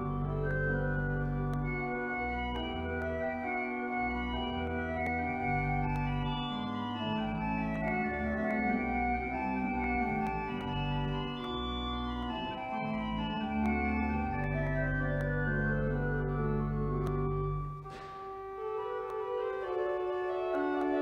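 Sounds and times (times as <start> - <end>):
deep organ bass line: 0.0 - 17.9
organ chords: 0.0 - 21.0.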